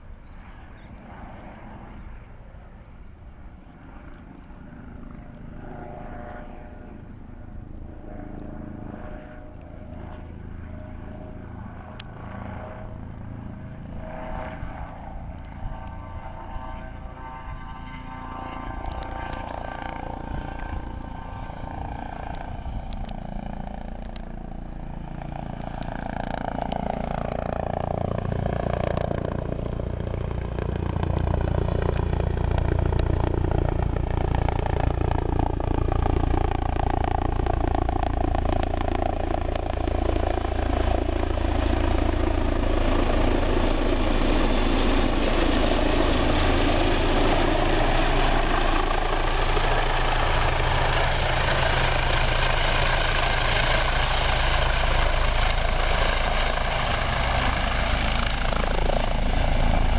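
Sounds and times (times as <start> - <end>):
helicopter rotor and turbine noise: 0.0 - 59.9
high turbine whine: 0.0 - 59.9.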